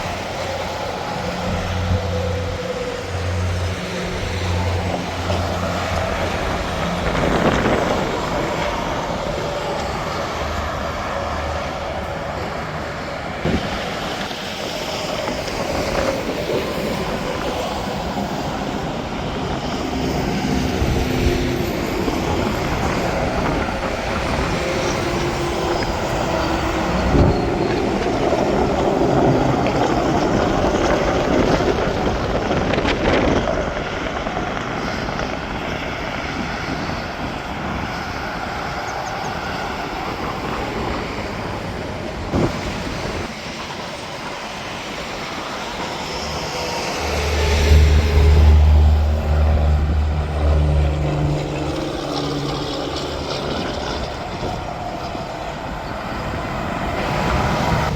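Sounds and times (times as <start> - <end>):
cars passing: 0.0 - 57.9
heavy trucks passing: 0.0 - 57.9.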